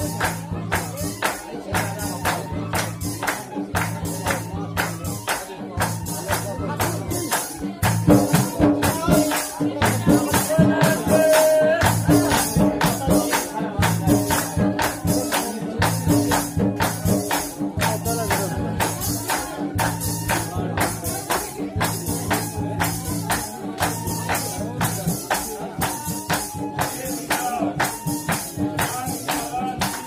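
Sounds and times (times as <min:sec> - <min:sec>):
bamboo flute melody: 0:00.0 - 0:30.0
steady percussion beat: 0:00.0 - 0:30.0.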